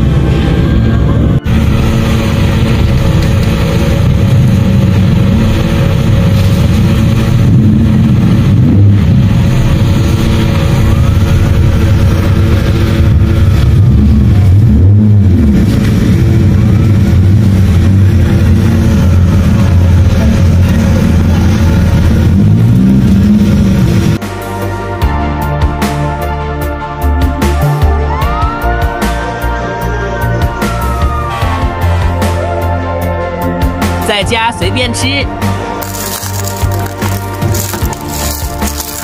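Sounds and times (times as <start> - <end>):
fire truck engine droning: 0.0 - 34.0, 34.9 - 39.0.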